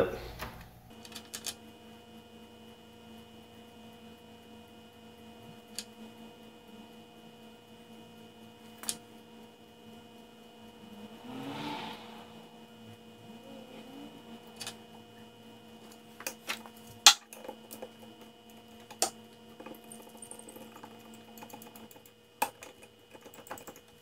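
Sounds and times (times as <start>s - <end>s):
small electric motor humming: 0.8s - 22.4s.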